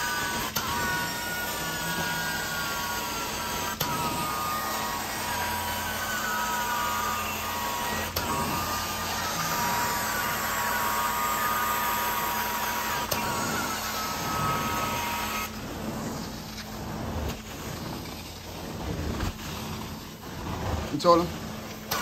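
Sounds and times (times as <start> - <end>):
carpet cleaning wand suction: 0.0 - 22.0.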